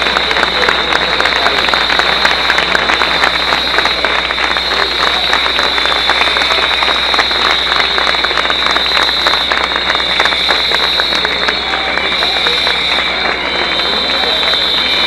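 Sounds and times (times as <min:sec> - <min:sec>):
crowd clapping: 0:00.0 - 0:15.0
high-pitched whine: 0:00.0 - 0:15.0
hubbub of voices: 0:00.0 - 0:15.0.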